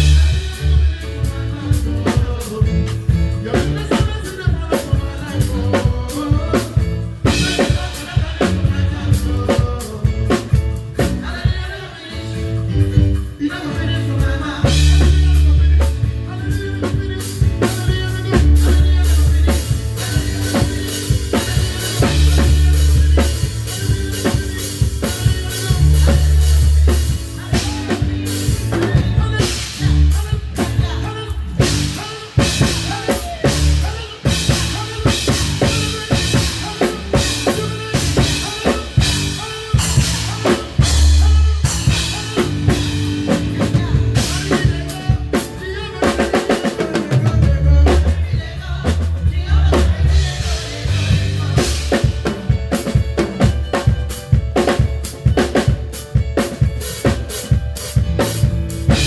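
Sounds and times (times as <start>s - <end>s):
held bass notes: 0.0s - 11.6s, 12.2s - 46.0s, 47.1s - 56.8s
drum kit playing: 0.0s - 59.0s.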